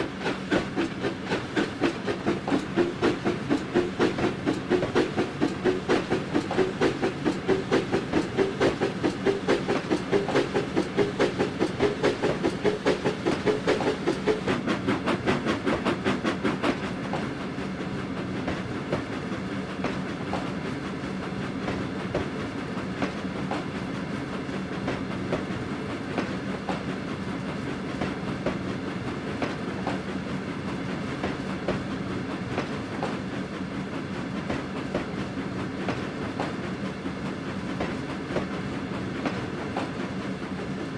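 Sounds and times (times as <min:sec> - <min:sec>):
steam locomotive exhaust beats: 0:00.0 - 0:40.9
train clickety-clack on rails: 0:00.0 - 0:40.9.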